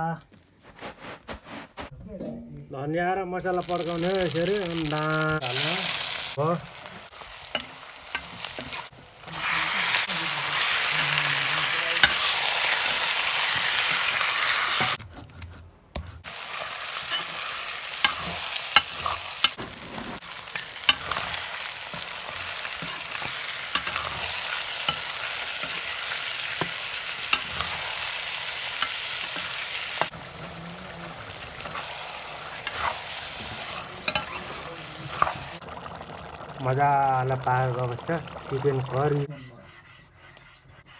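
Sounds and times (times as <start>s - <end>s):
food sizzling in hot oil: 3.4s - 15.0s, 16.2s - 39.2s
spoon stirring against a pot: 3.4s - 35.6s, 38.5s - 40.9s.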